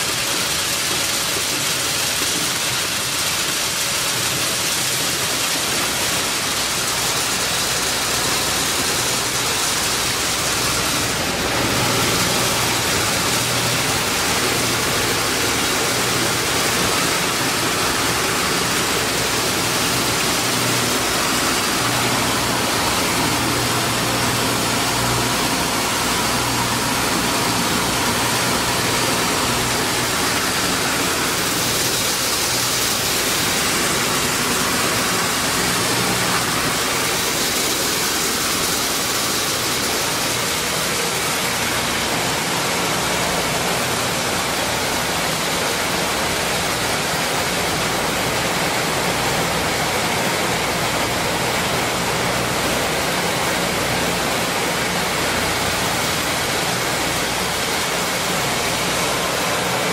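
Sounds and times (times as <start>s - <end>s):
milling machine grinding corn: 0.0s - 59.9s.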